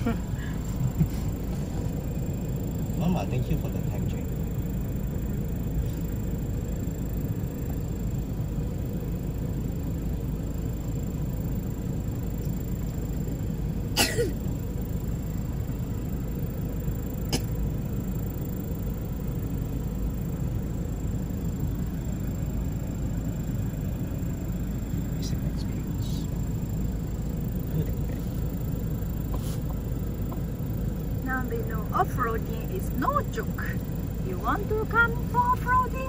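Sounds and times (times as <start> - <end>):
engine low rumble: 0.0 - 36.0.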